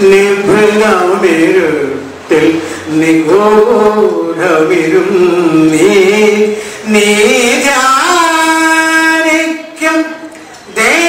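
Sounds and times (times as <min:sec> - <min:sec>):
man chanting verse: 0:00.0 - 0:11.0.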